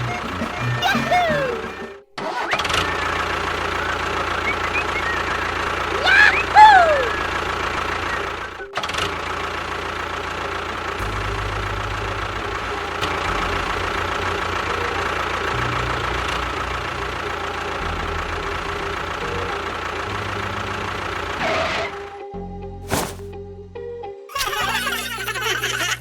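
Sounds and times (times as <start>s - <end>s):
engine running with knocking drone: 0.0s - 2.0s, 2.6s - 22.0s.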